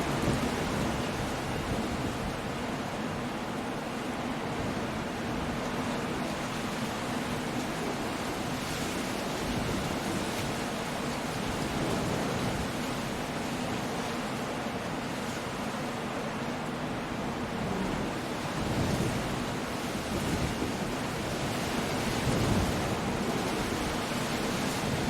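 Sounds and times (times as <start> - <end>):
surf on rocky coast: 0.0 - 25.0
wind: 0.0 - 25.0.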